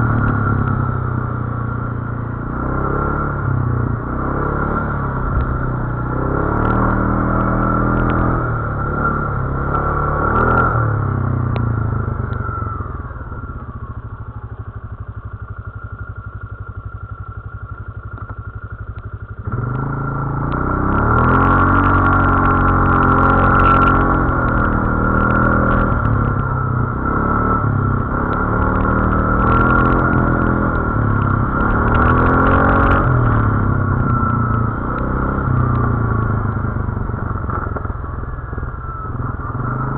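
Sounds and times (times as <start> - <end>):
atv engine revving: 0.0 - 14.2, 16.8 - 39.9.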